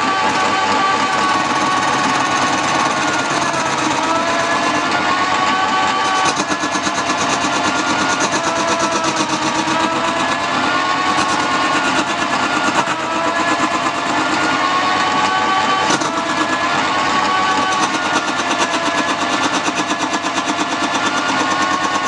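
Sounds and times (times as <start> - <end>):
tool cutting spinning wood: 0.0 - 22.0
wood lathe motor whine: 0.0 - 22.0.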